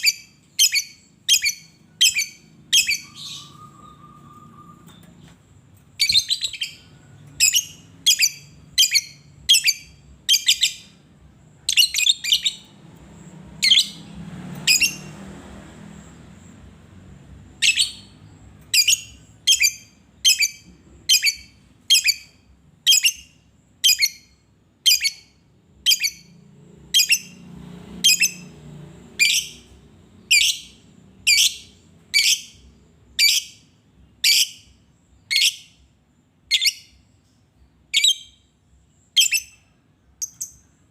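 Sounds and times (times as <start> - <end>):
lovebird chirping: 0.0 - 15.3, 17.4 - 40.9.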